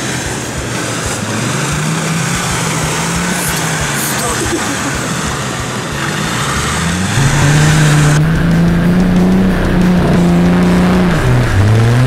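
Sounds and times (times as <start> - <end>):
off-road engine revving hard: 0.0 - 12.0.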